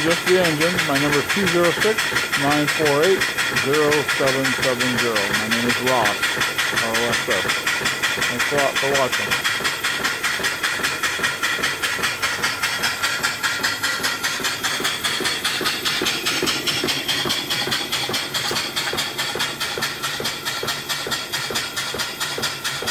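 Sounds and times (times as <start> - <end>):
steam engine exhaust puffs: 0.0 - 22.9.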